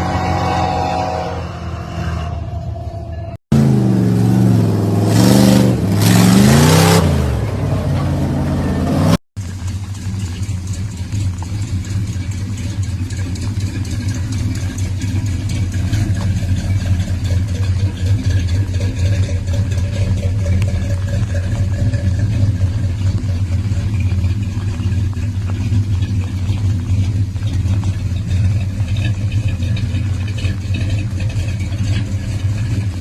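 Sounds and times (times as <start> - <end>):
truck engine running: 3.5 - 33.0.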